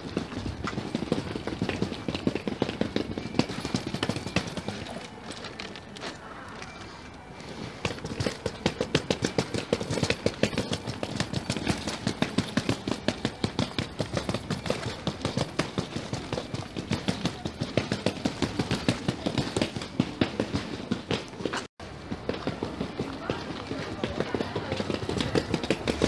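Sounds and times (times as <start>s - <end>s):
footsteps on wet cobblestones: 0.0s - 26.0s.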